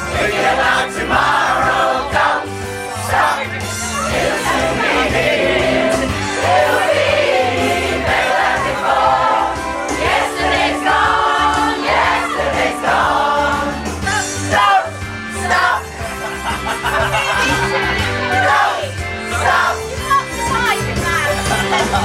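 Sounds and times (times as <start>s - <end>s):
pop choir singing: 0.0s - 22.0s
repeating bass line: 0.0s - 22.0s.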